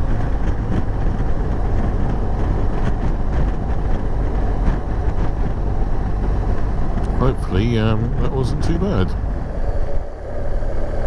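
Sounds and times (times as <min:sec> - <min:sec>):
motorcycle engine running: 0:00.0 - 0:09.6
wind rush: 0:00.0 - 0:11.0.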